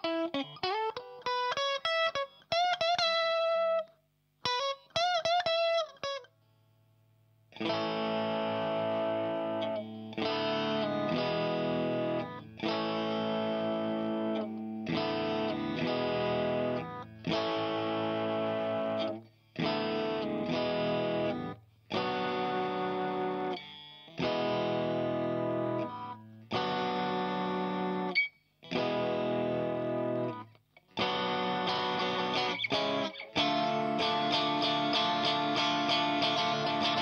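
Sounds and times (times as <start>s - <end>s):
electric guitar lead lines: 0.0s - 6.3s, 7.5s - 37.0s
overdriven guitar chords: 0.0s - 6.3s, 7.2s - 37.0s
faint amp hum: 0.0s - 37.0s.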